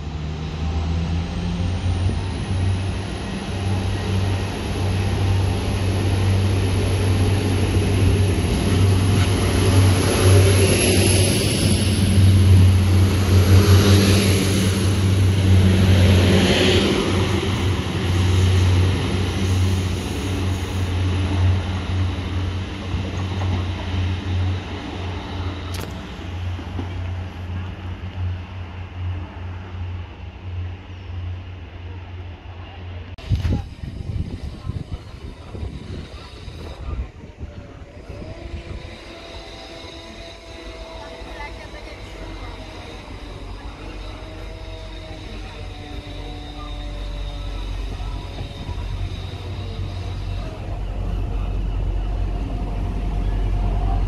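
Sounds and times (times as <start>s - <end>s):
train rail noise: 0.0s - 54.0s.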